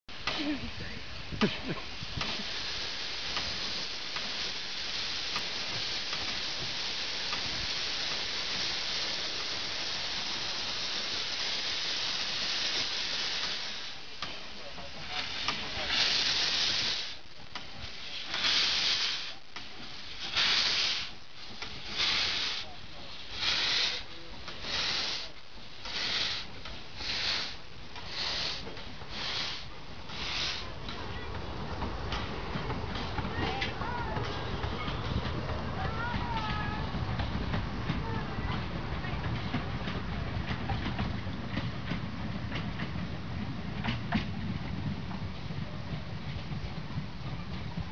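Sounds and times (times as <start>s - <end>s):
steam hissing from locomotive: 0.1s - 47.9s.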